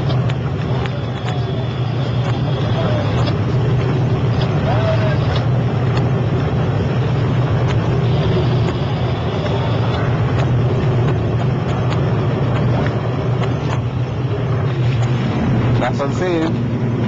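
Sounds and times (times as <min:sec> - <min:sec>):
rushing wind: 0:00.0 - 0:17.0
speedboat engine running: 0:00.0 - 0:17.0
water noise: 0:00.0 - 0:17.0.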